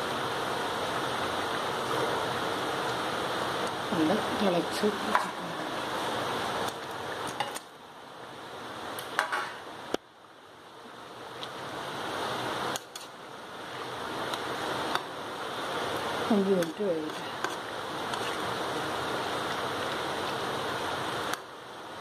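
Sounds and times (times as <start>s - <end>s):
gravy bubbling in a frying pan: 0.0s - 9.6s, 10.8s - 22.0s.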